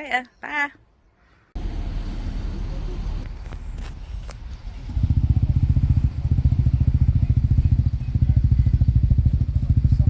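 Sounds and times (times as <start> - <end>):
engine running: 1.6 - 10.0.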